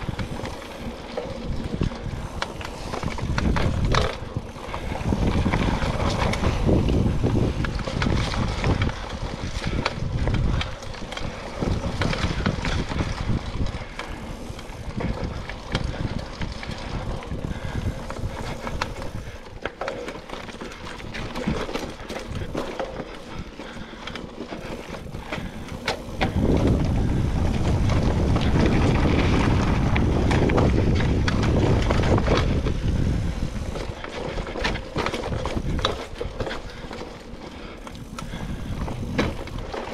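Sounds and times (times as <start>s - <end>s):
bike rattling and clicking: 0.0s - 39.9s
bike tyres on dirt: 0.0s - 39.9s
wind buffeting microphone: 0.0s - 39.9s.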